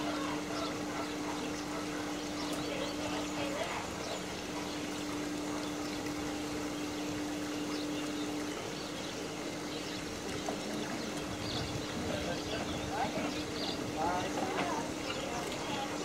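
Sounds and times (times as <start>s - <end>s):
steady low hum: 0.0s - 16.0s
water trickling and lapping: 0.0s - 16.0s.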